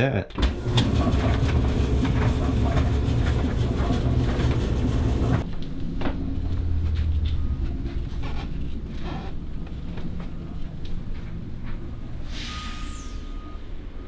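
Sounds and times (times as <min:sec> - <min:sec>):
laundry machine rumbling: 0:00.3 - 0:12.2
low hum: 0:00.5 - 0:14.0.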